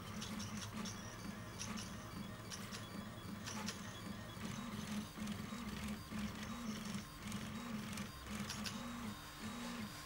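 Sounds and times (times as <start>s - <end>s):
printer stepper motors whining: 0.0s - 10.0s.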